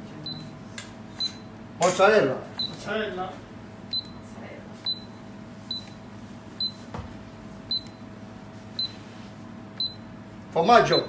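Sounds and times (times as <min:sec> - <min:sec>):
kitchen equipment hum: 0:00.0 - 0:11.0.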